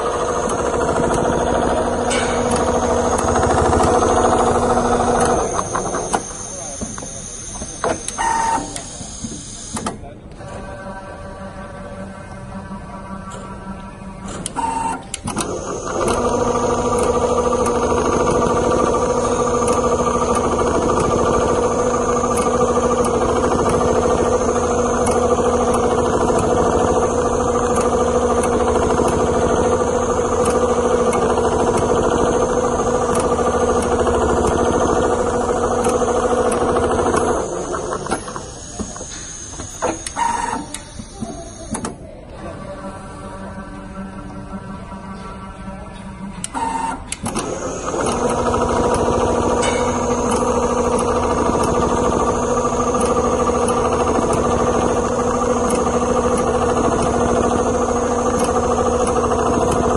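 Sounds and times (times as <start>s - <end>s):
sewing machine whining: 0.0s - 9.8s, 10.5s - 44.6s, 46.5s - 59.9s.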